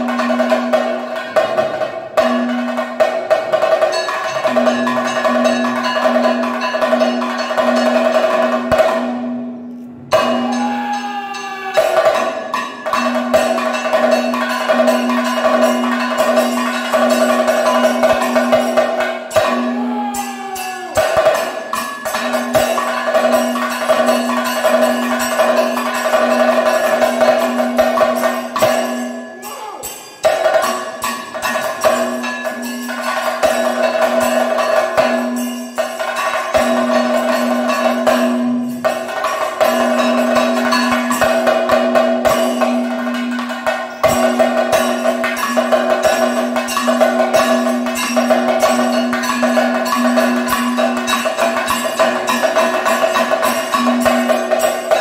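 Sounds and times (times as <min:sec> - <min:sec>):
cymbals ringing: 0:00.0 - 0:55.0
drum strokes: 0:00.0 - 0:55.0.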